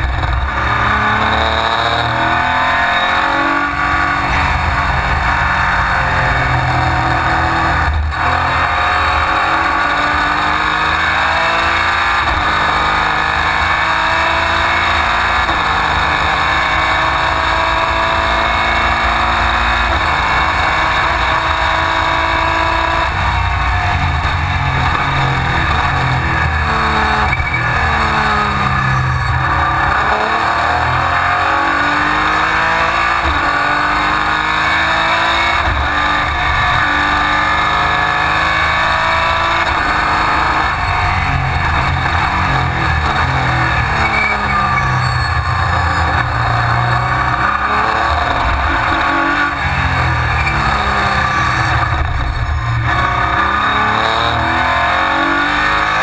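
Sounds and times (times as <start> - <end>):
race car engine revving: 0.0 - 56.0
wind and road noise: 0.0 - 56.0.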